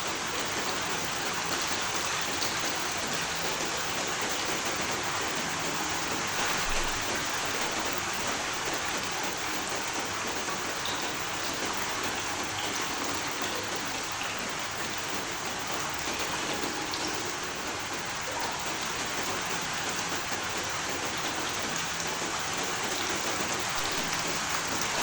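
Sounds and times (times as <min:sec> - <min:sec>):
faint raindrop ticks: 0:00.0 - 0:25.0
steady rain hiss: 0:00.0 - 0:25.0.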